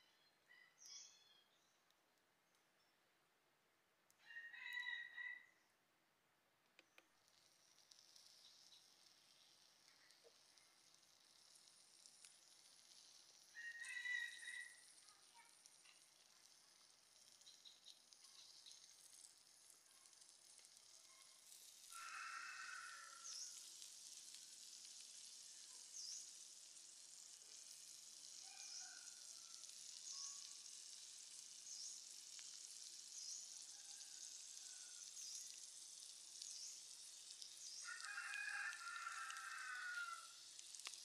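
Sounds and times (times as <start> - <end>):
shrimp sizzling on hot stone: 6.9 - 41.0.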